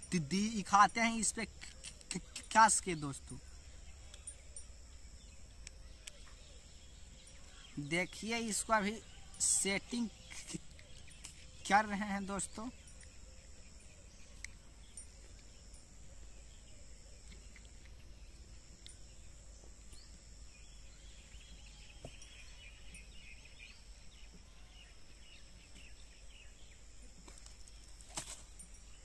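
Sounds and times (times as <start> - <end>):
faint bird chirps: 0.0 - 29.0
high insect hiss: 0.0 - 29.0.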